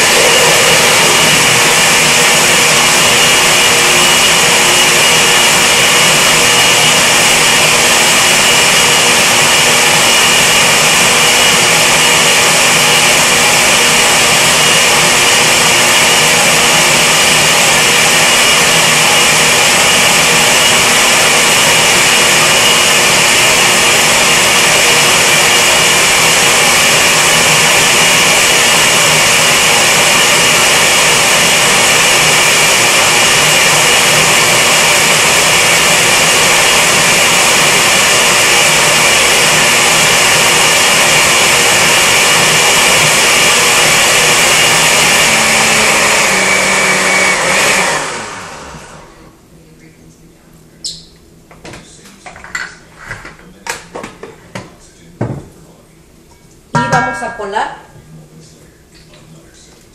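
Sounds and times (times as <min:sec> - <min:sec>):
blender whining: 0:00.0 - 0:49.4.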